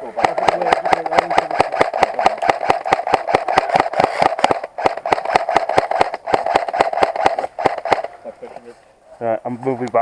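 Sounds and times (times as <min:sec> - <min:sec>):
airsoft gun firing full auto: 0:00.0 - 0:08.1.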